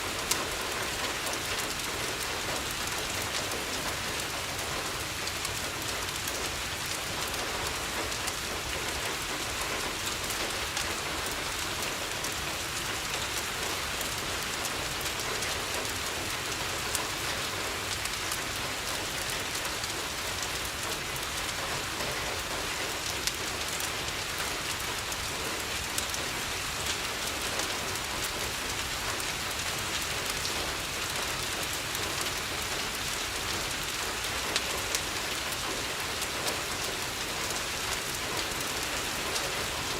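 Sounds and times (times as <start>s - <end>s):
rain falling on a window: 0.0s - 39.9s.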